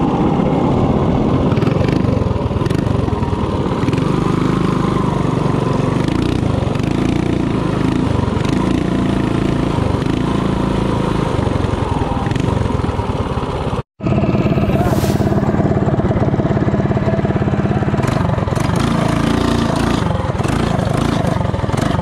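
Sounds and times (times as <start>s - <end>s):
small motorbike engine revving: 0.0s - 22.0s.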